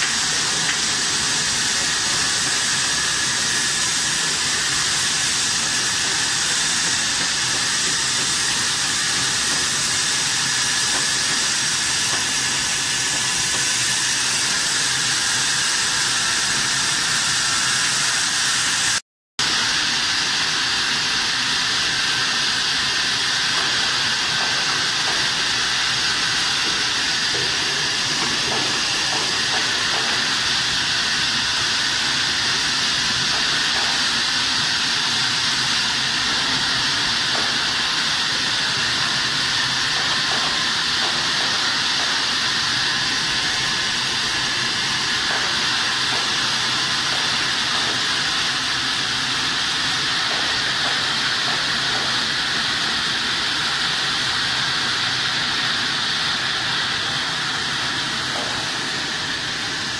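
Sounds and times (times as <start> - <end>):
machinery hissing: 0.0 - 59.9.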